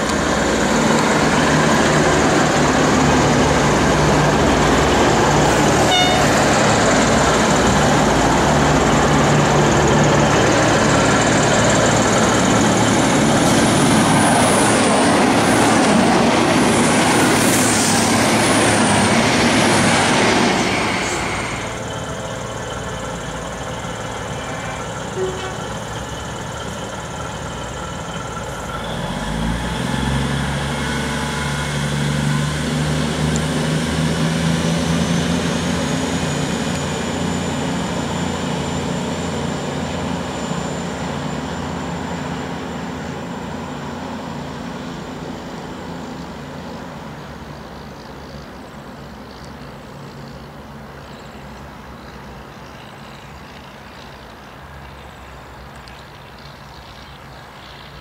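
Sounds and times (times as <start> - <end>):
diesel train engines: 0.0 - 58.0.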